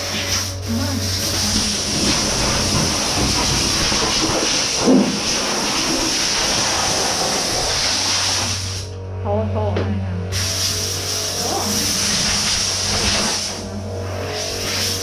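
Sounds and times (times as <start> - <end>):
air blower hissing: 0.0 - 8.9, 10.3 - 15.0.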